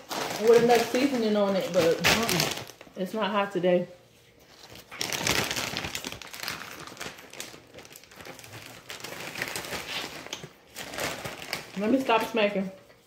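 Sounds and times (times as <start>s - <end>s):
food packaging crinkling: 0.0s - 3.0s, 4.5s - 12.4s.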